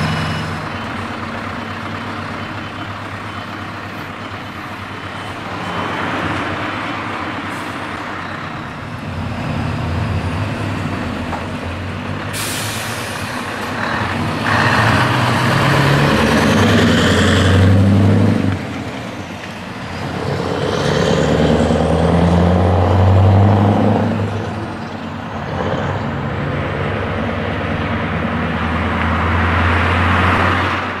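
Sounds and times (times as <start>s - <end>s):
truck engine accelerating: 0.0s - 31.0s.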